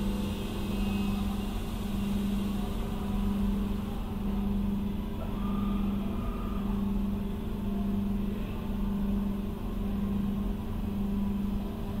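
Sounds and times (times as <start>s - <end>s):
machine humming low: 0.0s - 12.0s.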